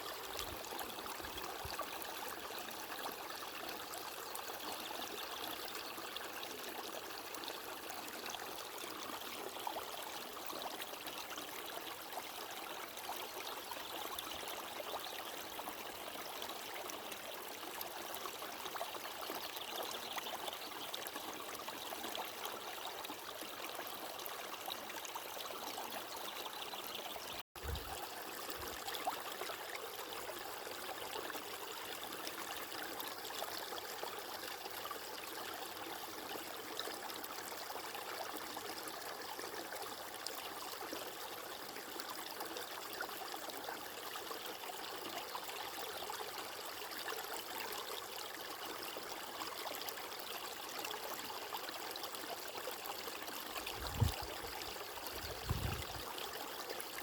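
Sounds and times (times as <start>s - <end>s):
water flowing in a stream: 0.0s - 57.0s.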